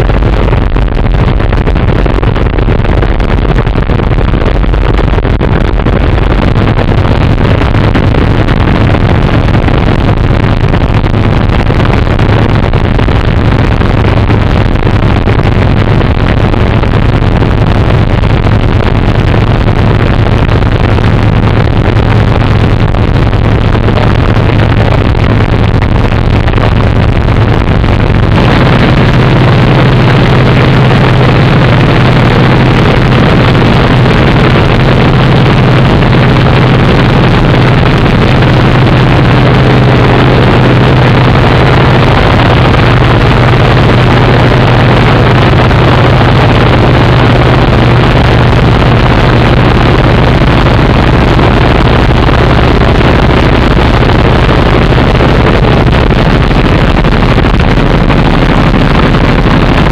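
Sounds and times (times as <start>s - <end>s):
radial engine droning: 0.0s - 59.9s.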